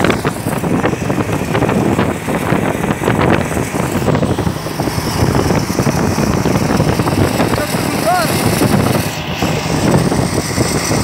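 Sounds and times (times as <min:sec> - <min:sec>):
road vehicle running: 0:00.0 - 0:11.0
wind buffeting microphone: 0:00.0 - 0:11.0.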